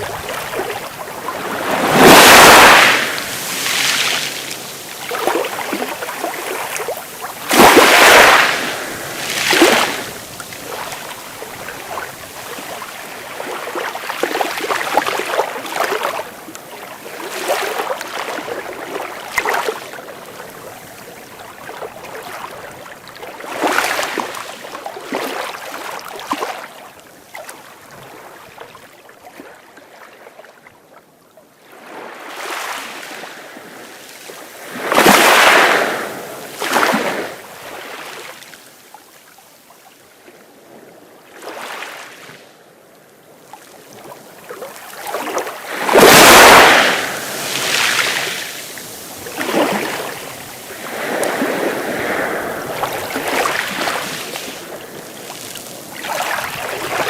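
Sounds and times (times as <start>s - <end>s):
sea waves breaking on a beach: 0.0s - 30.7s, 31.5s - 57.0s.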